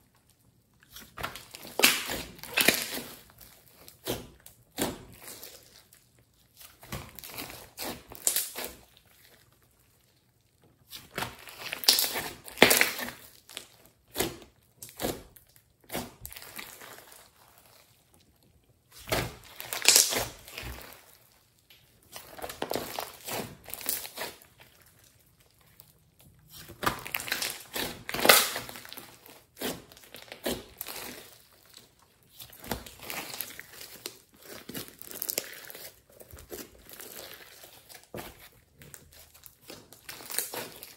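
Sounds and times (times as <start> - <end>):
slime squishing by hand: 0.0 - 40.9.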